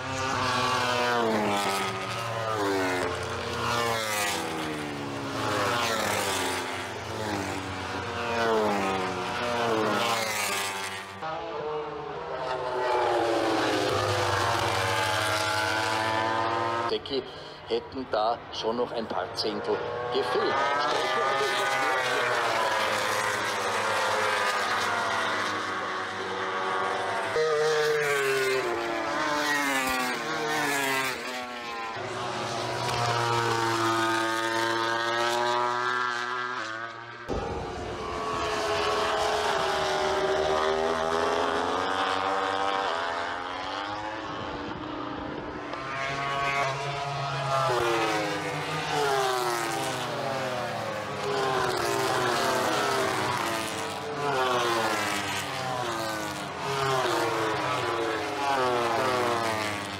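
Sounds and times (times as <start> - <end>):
racing motorcycles passing: 0.0 - 59.9.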